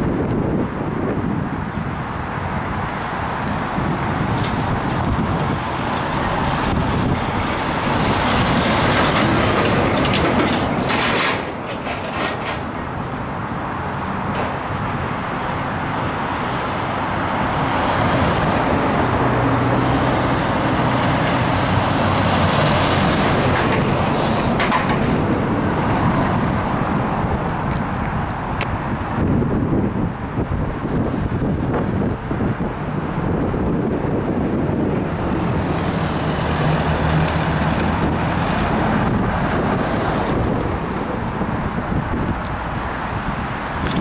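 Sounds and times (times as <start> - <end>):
cars and trucks driving past: 0.0 - 44.0
low engine hum of passing vehicle: 0.0 - 44.0.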